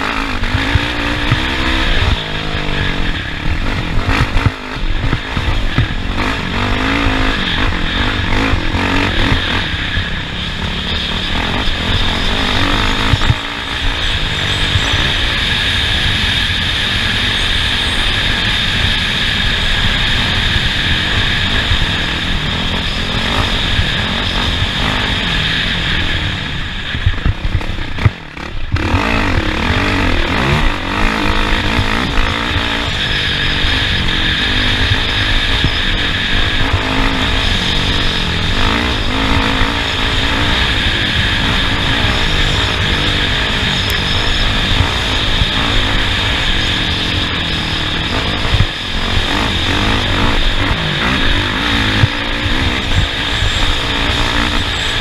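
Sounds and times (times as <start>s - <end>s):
constant rushing noise: 0.0s - 55.0s
racing vehicle engine revving: 0.0s - 55.0s.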